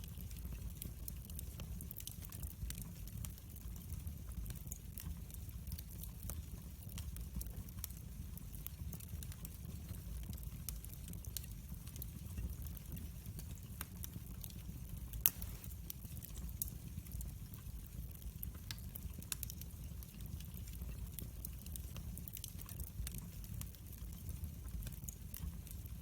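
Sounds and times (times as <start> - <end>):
fire popping and snapping: 0.0 - 26.0
low rumble of flames: 0.0 - 26.0.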